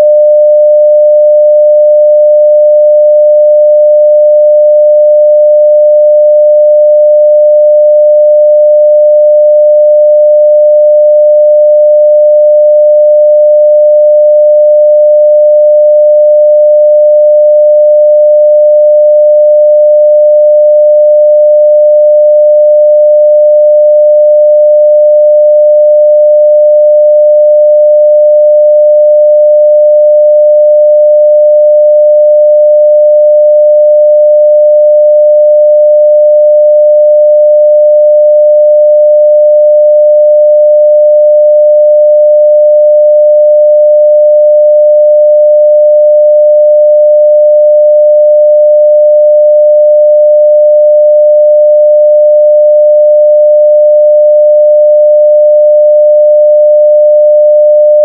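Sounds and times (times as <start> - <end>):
sine wave test tone: 0.0 - 58.0.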